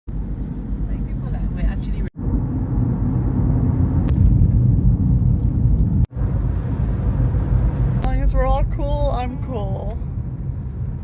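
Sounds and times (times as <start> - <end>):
vehicle rumble: 0.1 - 11.0.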